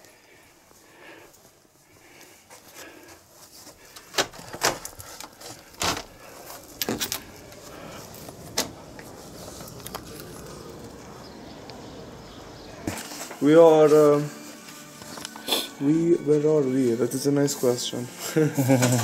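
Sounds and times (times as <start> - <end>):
outdoor city background noise: 0.0 - 19.0.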